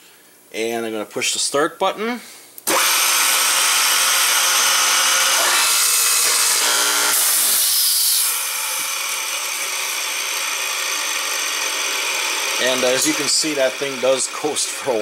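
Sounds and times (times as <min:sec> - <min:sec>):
drill bits boring into wood: 0:02.7 - 0:15.0
electric motor running: 0:02.7 - 0:15.0.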